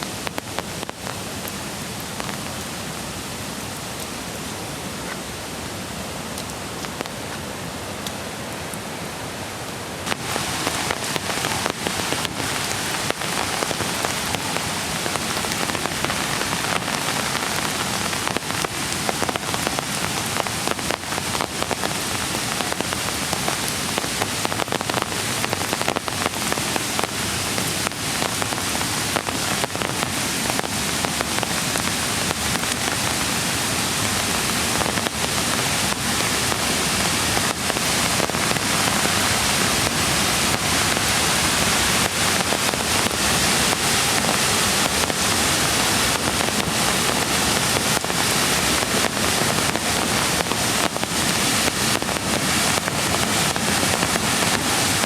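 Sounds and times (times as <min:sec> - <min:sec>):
mountain creek rushing: 0:00.0 - 0:55.0
raindrops hitting close: 0:00.0 - 0:55.0.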